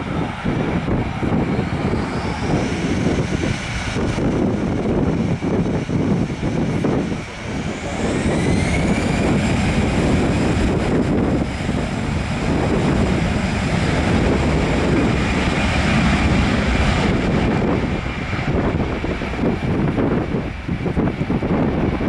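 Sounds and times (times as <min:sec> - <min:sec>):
deep engine rumble: 0:00.0 - 0:22.0
jet engines whining: 0:00.0 - 0:22.0.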